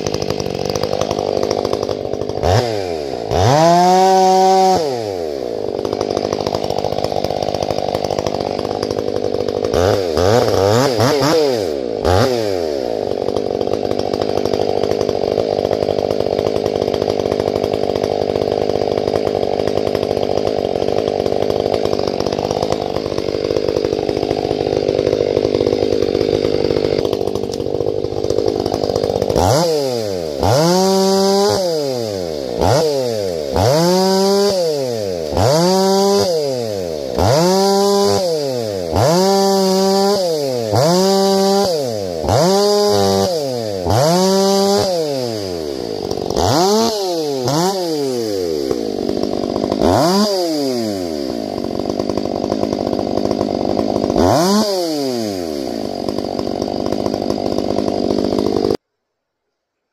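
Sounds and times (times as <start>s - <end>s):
chainsaw revving and cutting: 0.0s - 58.8s.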